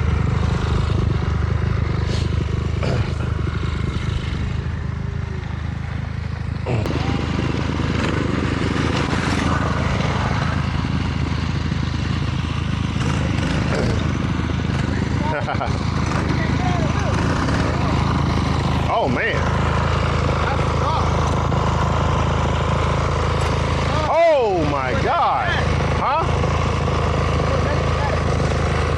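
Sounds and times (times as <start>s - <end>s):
electric bike rumbling on dirt: 0.0s - 28.9s.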